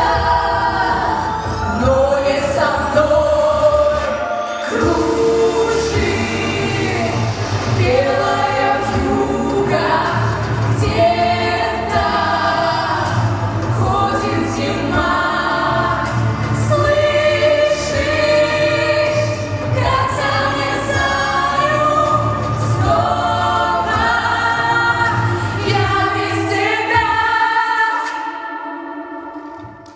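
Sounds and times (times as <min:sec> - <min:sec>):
bass line: 0:00.0 - 0:04.2, 0:04.8 - 0:26.7
light percussion: 0:00.0 - 0:27.4
layered choir-like vocals: 0:00.0 - 0:29.9.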